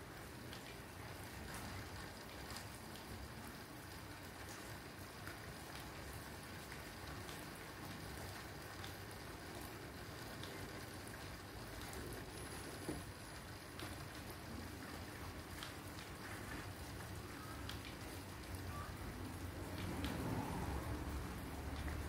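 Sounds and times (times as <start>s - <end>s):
aquarium water circulating: 0.0s - 22.0s.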